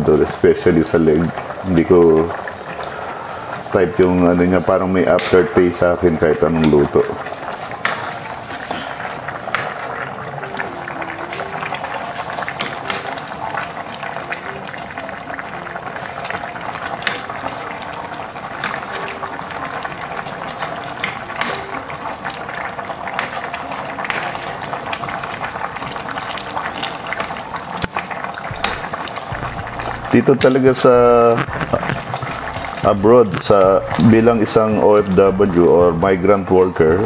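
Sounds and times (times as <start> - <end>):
ladle stirring: 0.0 - 36.9
sauce boiling in a pot: 0.0 - 37.0.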